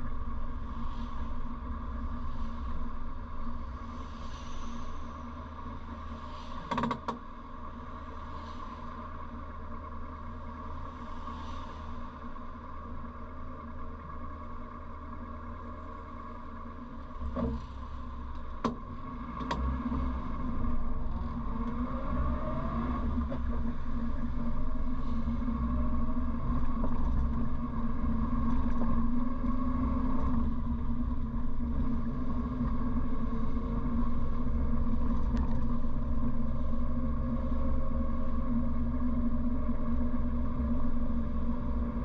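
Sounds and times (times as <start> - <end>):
car engine from inside cabin: 0.0 - 42.0.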